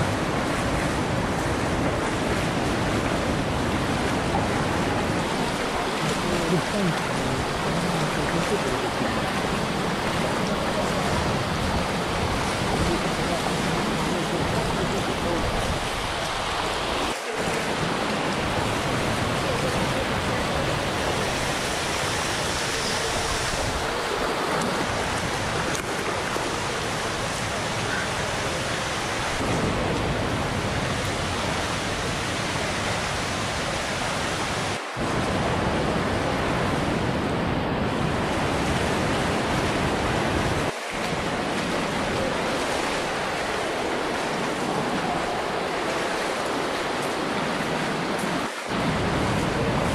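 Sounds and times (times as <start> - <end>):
waterfall roar: 0.0 - 49.9.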